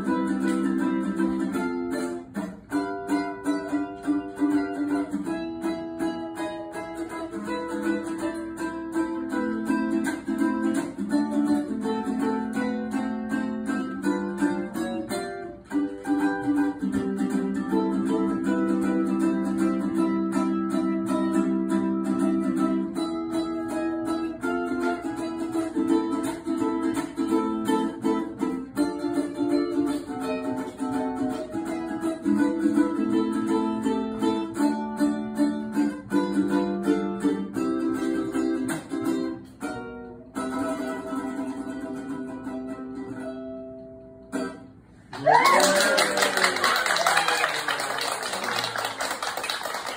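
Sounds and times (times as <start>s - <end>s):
solo ukulele playing: 0.0s - 47.2s.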